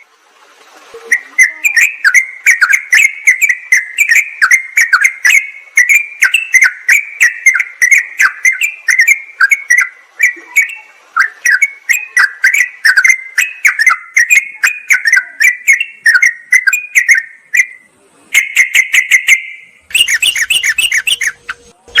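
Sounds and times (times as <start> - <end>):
bulbuls chattering calls: 1.1 - 17.3, 18.3 - 22.0.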